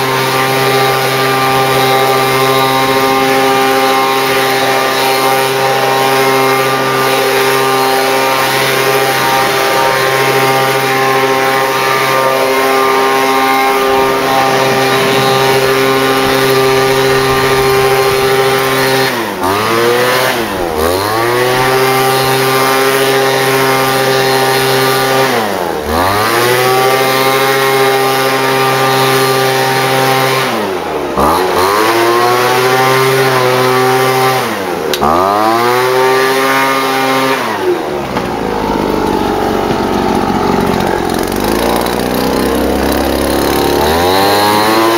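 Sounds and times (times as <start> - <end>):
small petrol engine running: 0.0 - 44.9.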